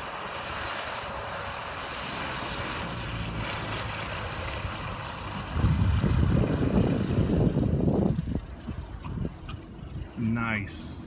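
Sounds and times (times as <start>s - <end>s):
light aircraft engine drone: 0.0s - 11.0s
low rumble: 0.0s - 11.0s.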